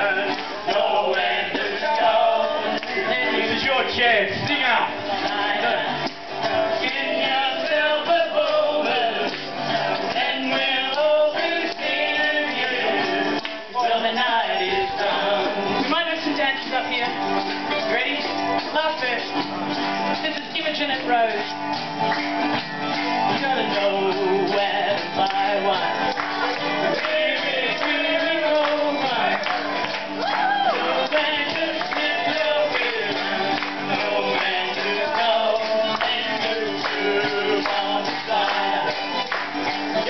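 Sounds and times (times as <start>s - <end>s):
people singing: 0.0s - 21.4s, 22.1s - 40.0s
acoustic folk band playing: 0.0s - 40.0s
mandolin: 0.0s - 40.0s
strummed guitars: 0.0s - 40.0s.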